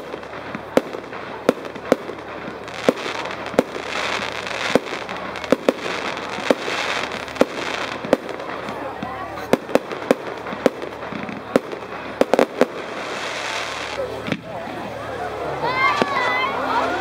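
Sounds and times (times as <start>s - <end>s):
firework bangs: 0.0s - 14.6s
hissing crackle of fireworks: 0.0s - 17.0s.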